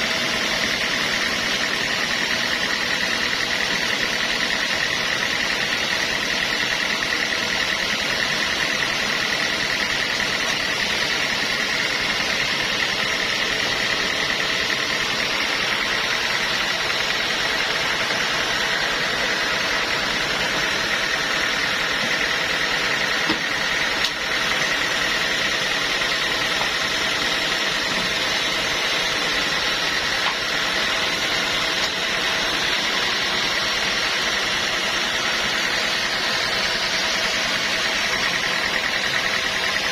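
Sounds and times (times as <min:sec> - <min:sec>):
sawmill machinery running: 0:00.0 - 0:39.9
steady high whine: 0:00.0 - 0:39.9.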